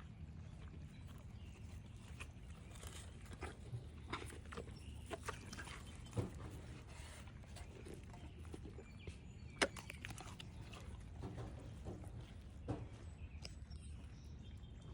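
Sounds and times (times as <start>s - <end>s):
dog chewing and crunching: 0.6s - 12.6s.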